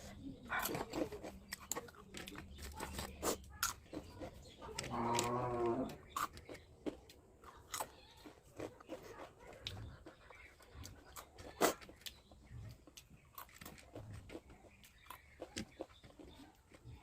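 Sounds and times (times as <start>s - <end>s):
wet chewing and biting: 0.0s - 17.0s.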